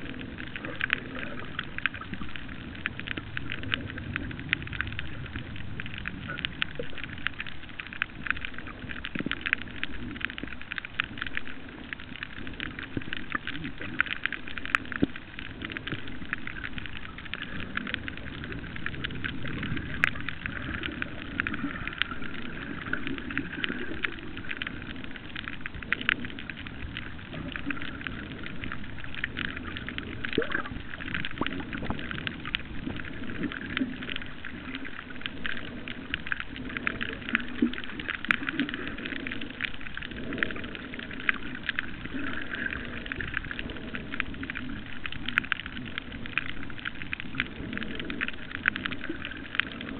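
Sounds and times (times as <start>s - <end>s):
low rumble of moving water: 0.0s - 49.9s.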